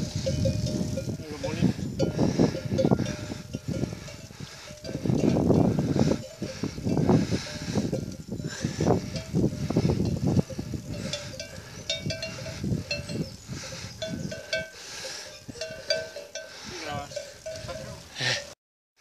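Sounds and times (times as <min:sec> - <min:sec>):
cow bells clanking: 0:00.0 - 0:18.6.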